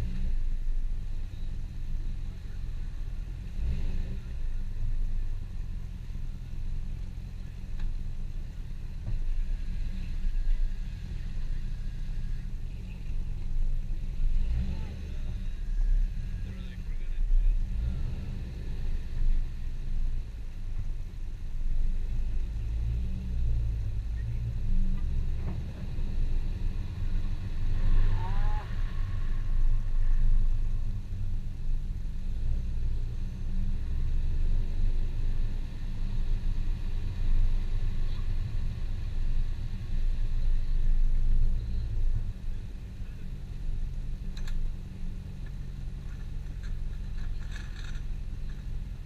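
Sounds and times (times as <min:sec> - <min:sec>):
car engine running low: 0:00.0 - 0:49.0.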